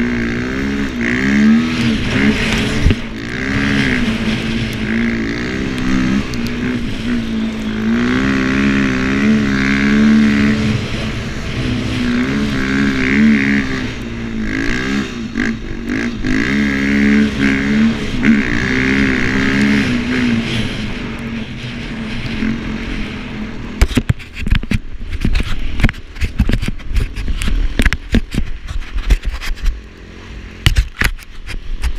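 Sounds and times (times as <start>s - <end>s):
snow bike engine revving: 0.0s - 31.9s.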